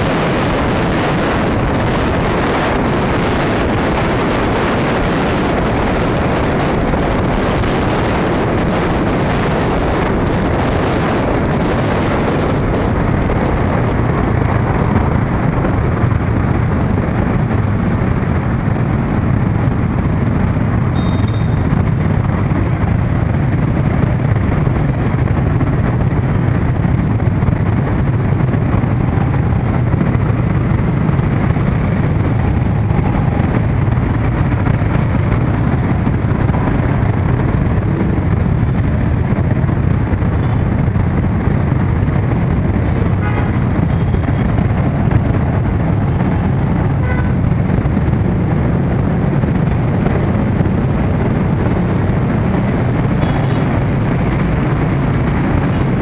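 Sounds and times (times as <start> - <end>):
motorcycles and cars idling: 0.0 - 56.0.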